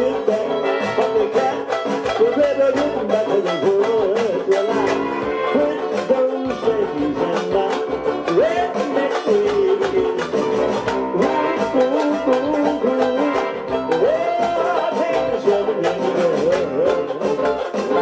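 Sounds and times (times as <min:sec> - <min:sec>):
banjo strummed rapidly: 0:00.0 - 0:18.0
electronic keyboard melody: 0:00.0 - 0:18.0.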